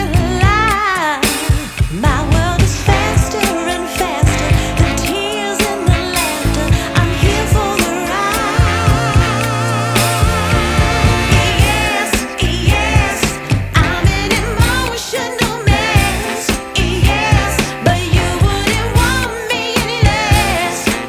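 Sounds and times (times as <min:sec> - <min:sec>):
soul-pop song on boombox: 0:00.0 - 0:21.0.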